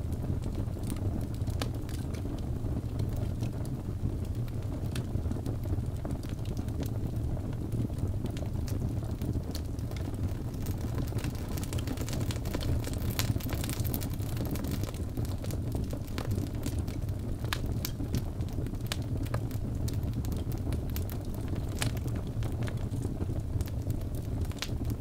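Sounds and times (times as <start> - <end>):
fire flames rumbling: 0.0 - 25.0
logs crackling and popping: 0.0 - 25.0.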